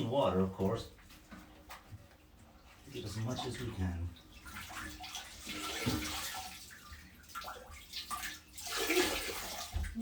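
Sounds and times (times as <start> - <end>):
water sloshing in toilet tank: 0.0 - 10.0.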